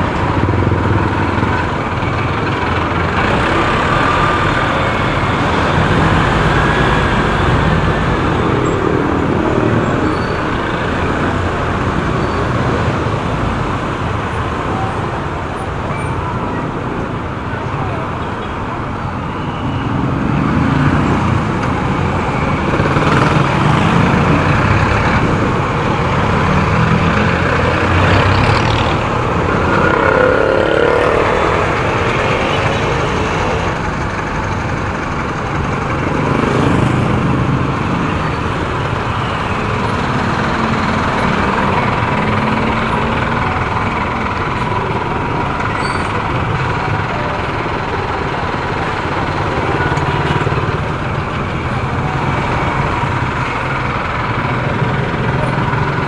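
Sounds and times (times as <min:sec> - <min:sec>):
motorcycle engine: 0:00.0 - 0:12.2, 0:19.9 - 0:56.0
din of traffic engines: 0:00.0 - 0:56.0.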